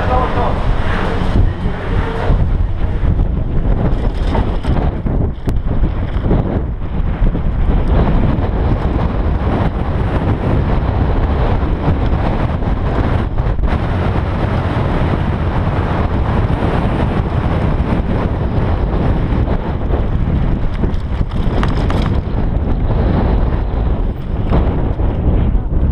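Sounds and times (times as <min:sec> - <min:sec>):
bike rattling: 0:00.0 - 0:25.9
wind rushing over microphone: 0:00.0 - 0:25.9.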